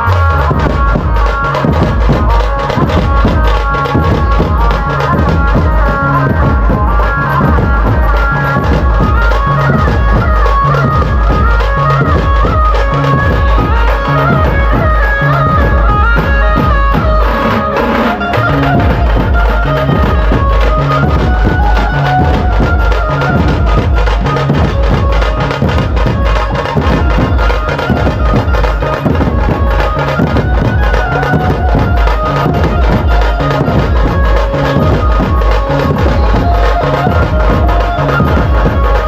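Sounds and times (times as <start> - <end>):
devotional folk music: 0.0 - 39.0
heavy drum beat: 0.0 - 39.0.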